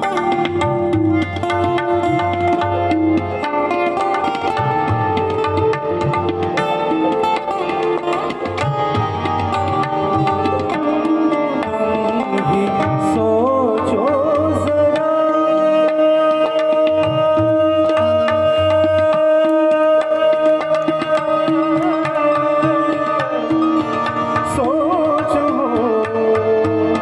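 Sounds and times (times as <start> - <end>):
harmonium: 0.0 - 27.0
tabla playing a rhythm: 0.0 - 27.0.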